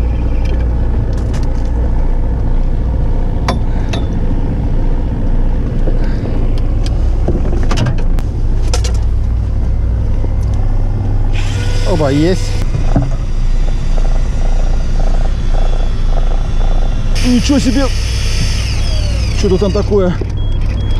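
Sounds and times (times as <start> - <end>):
boat machinery hum: 0.0 - 20.9.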